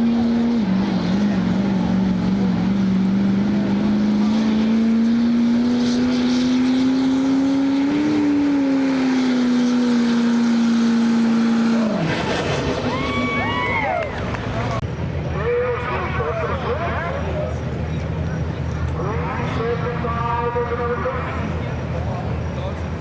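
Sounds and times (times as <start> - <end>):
diesel truck engine under load: 0.0 - 23.0.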